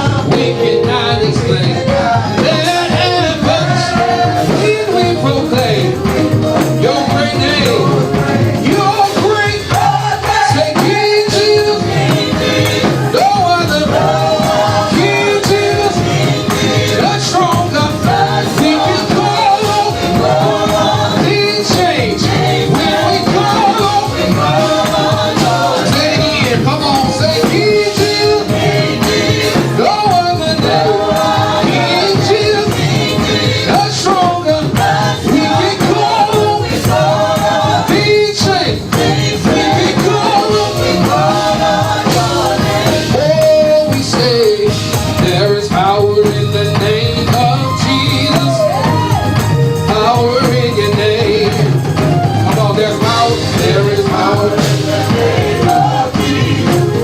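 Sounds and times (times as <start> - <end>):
gospel worship music with singing: 0.0 - 57.0.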